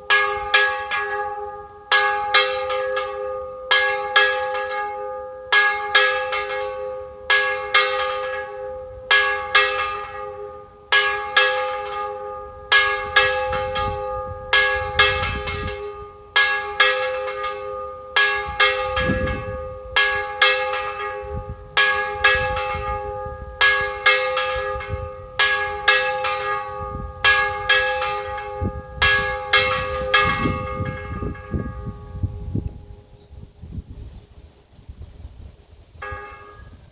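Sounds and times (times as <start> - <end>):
church bell tolling: 0.0 - 33.1, 36.0 - 36.9.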